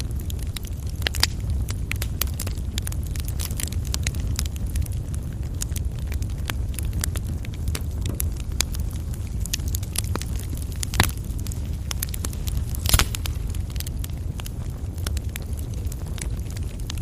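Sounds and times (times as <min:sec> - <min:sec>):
fire crackling: 0:00.0 - 0:17.0
loud fire pops: 0:00.0 - 0:17.0
rumble of fire flames: 0:00.0 - 0:17.0.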